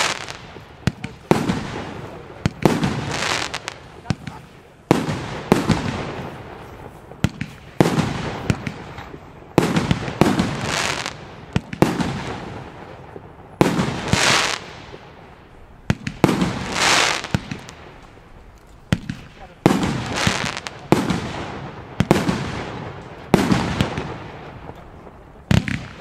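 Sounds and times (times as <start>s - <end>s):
firework shots banging and hissing: 0.0s - 26.0s.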